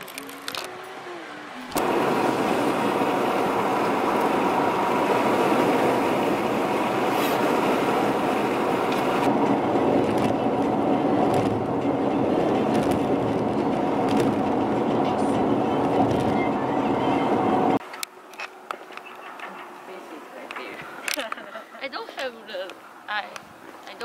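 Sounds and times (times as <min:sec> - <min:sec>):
faint engine hum: 0:00.0 - 0:24.0
road and tyre noise: 0:00.0 - 0:24.0.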